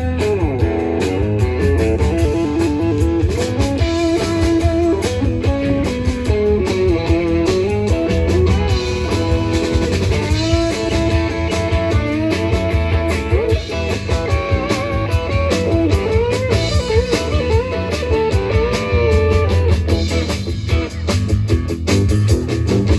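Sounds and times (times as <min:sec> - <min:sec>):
bass and drums: 0:00.0 - 0:22.9
electric guitar lead: 0:00.0 - 0:22.9.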